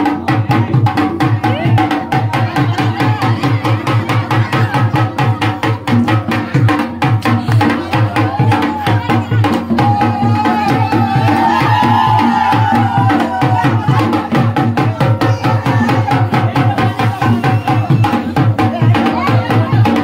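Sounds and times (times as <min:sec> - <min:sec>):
fast festival drums: 0:00.0 - 0:20.0.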